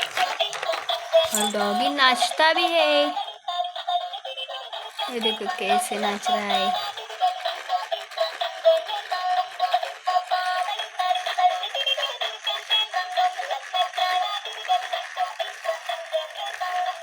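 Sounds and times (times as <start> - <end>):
toy playing electronic song: 0.0 - 17.0.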